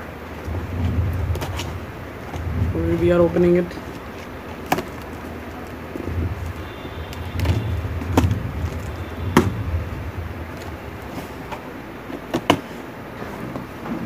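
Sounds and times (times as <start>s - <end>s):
low rumble of cardboard box: 0.0s - 14.0s
cardboard crackles and taps: 0.4s - 14.0s.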